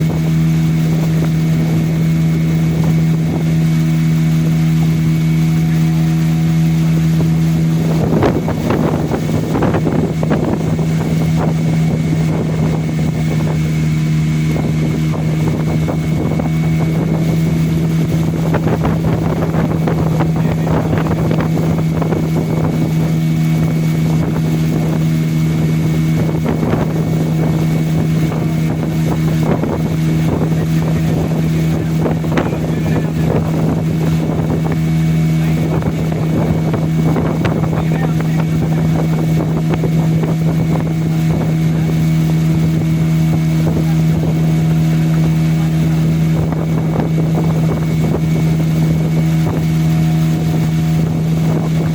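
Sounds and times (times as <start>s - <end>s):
motorboat engine running: 0.0s - 51.9s
wind and water rushing: 0.0s - 51.9s.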